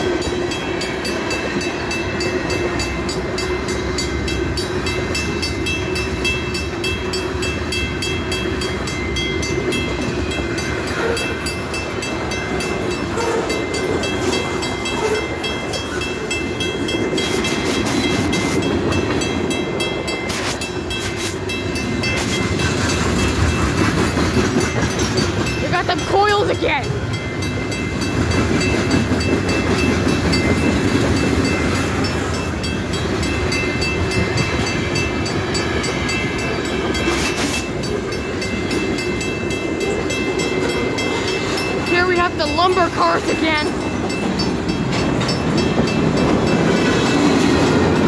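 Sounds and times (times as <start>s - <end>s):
crossing warning bell: 0.0s - 48.0s.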